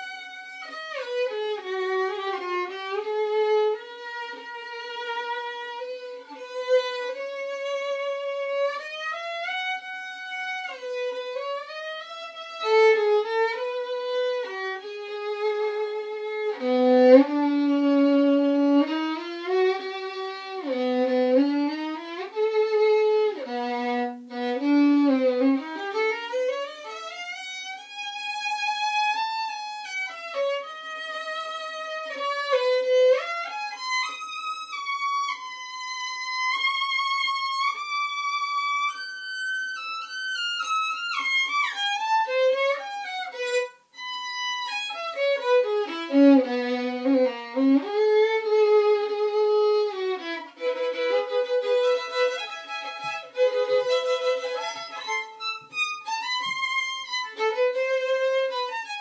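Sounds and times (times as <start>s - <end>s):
solo violin melody with vibrato: 0.0s - 59.0s.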